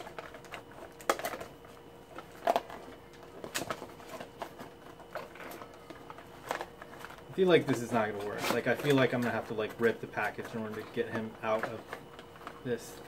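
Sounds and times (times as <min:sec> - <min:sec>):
cardboard and plastic packaging handled: 0:00.0 - 0:13.0.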